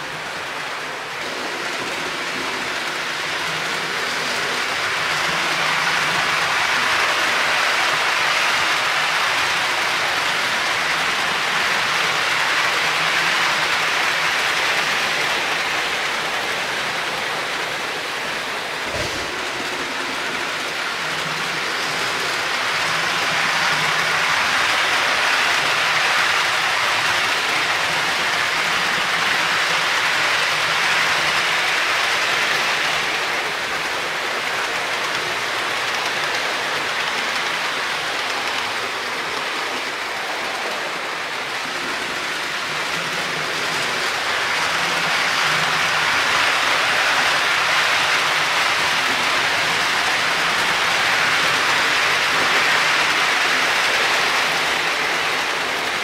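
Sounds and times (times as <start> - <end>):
model train wheels on track: 0.0 - 56.0.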